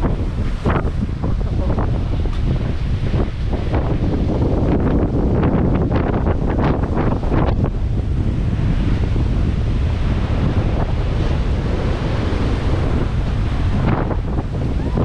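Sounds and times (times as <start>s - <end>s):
heavy surf: 0.0s - 15.0s
wind buffeting microphone: 0.0s - 15.0s.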